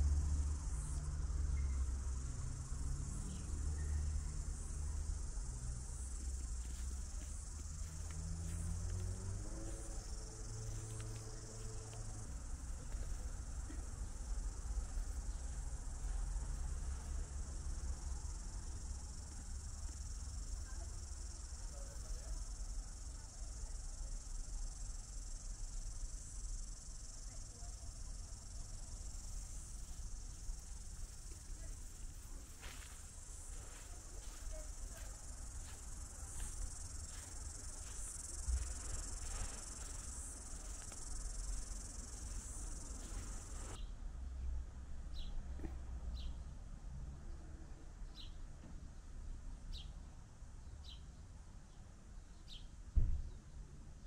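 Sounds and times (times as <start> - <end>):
insects chorus: 0.0 - 43.8.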